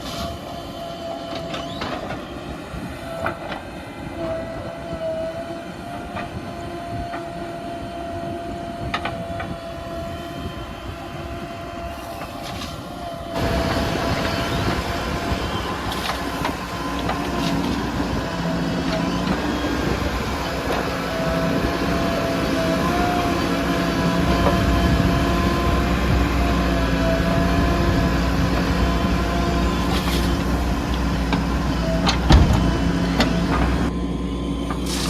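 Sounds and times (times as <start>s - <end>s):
diesel engine drone: 0.0s - 35.0s
high hydraulic whine: 0.0s - 35.0s.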